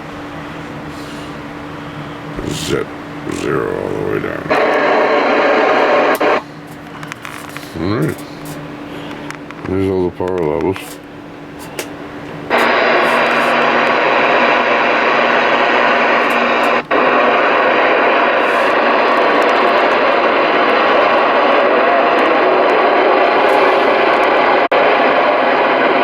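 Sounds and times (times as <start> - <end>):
radio static hiss: 2.3 - 26.0.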